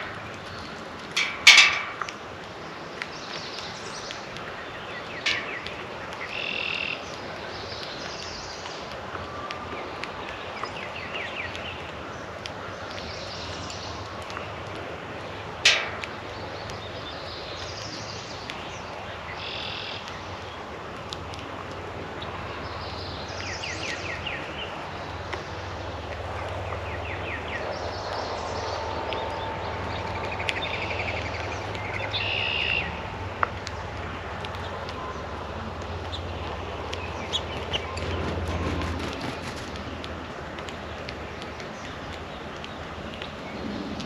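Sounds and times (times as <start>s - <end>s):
songbirds singing and calling: 0.0s - 44.0s.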